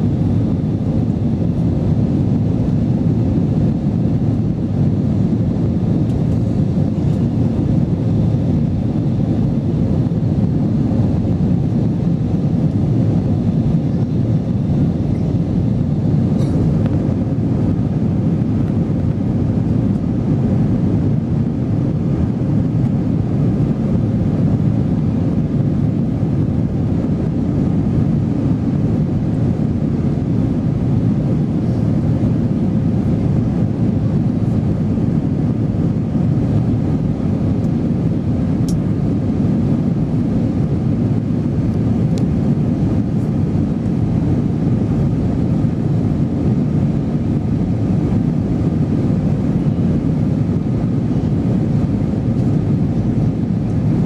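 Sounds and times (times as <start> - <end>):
faint steady hum: 0.0 - 54.0
jet engine rumble: 0.0 - 54.0.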